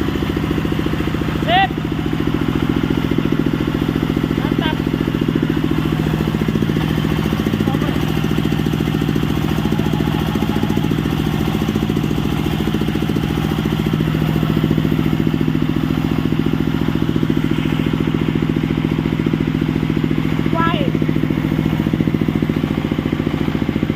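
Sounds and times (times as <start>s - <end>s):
sawmill engine running: 0.0s - 23.9s.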